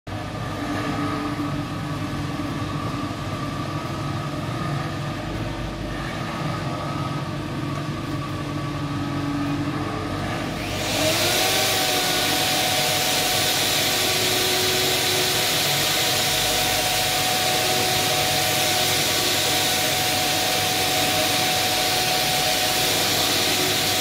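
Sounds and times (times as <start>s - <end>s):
machinery humming: 0.1s - 24.0s.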